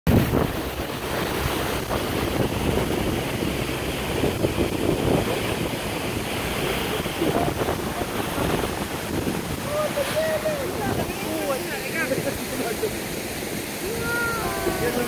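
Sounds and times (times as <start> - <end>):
waterfall rushing: 0.1 - 15.0
wind buffeting microphone: 0.1 - 15.0.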